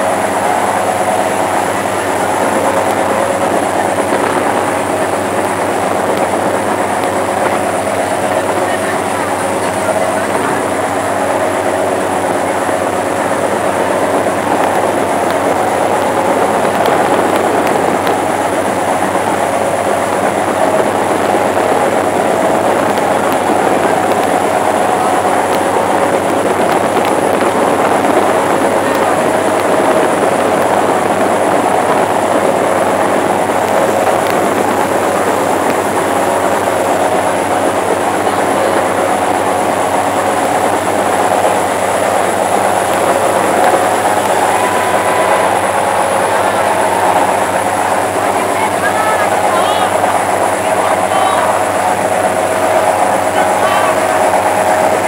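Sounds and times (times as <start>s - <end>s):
boat engine rumbling: 0.0s - 55.0s
water rushing along hull: 0.0s - 55.0s.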